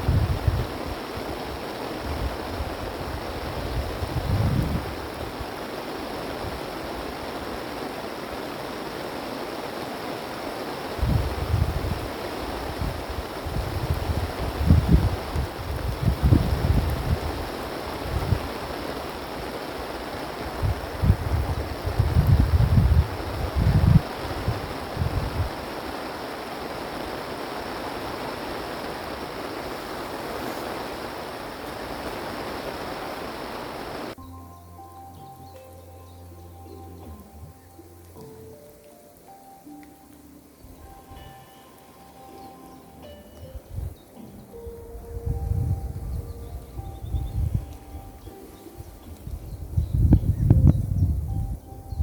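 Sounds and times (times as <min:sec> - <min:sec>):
strong wind blowing: 0:00.0 - 0:34.2, 0:43.0 - 0:52.0.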